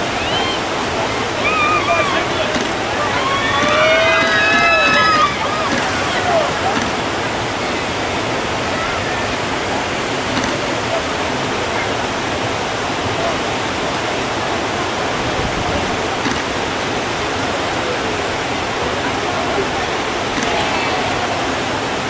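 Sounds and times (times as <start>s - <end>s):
water rushing over weir: 0.0s - 22.0s.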